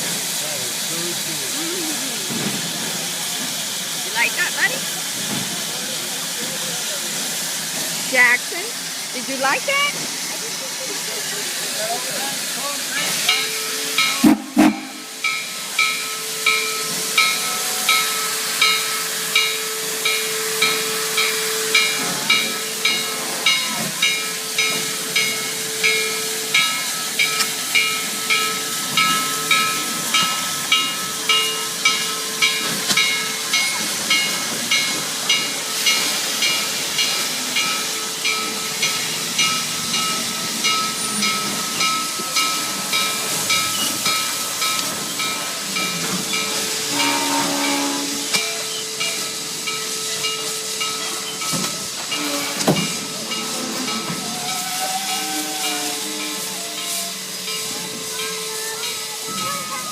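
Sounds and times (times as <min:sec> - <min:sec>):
steam locomotive hissing and puffing: 0:00.0 - 0:59.9.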